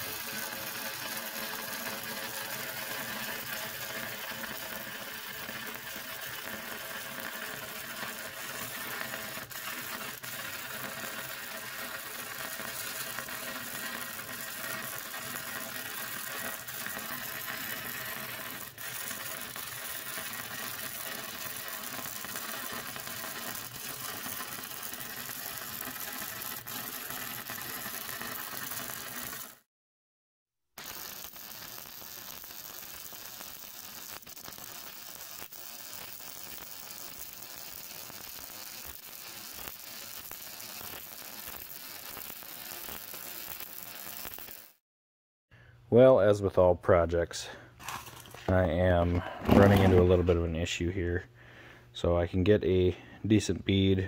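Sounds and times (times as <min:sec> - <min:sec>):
welder arc buzzing: 0:00.0 - 0:29.7, 0:30.8 - 0:44.8.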